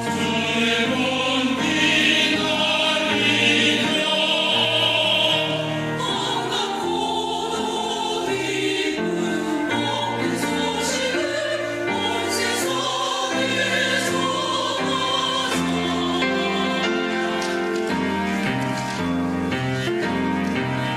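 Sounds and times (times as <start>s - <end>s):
choir singing a hymn: 0.0s - 18.6s.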